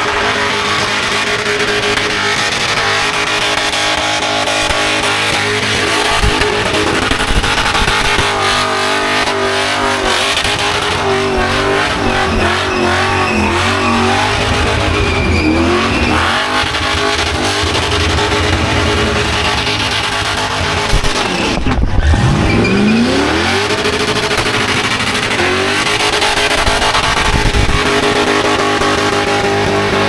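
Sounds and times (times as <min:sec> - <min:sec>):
car engine at high revs: 0:00.0 - 0:30.0
tyres spinning: 0:00.1 - 0:30.0.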